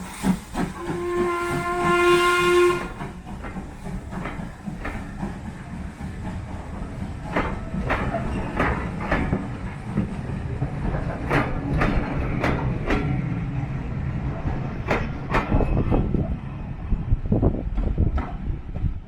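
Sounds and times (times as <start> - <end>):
wheels clickety-clack over joints: 0.0 - 16.3
railway carriage rumble: 0.0 - 19.0.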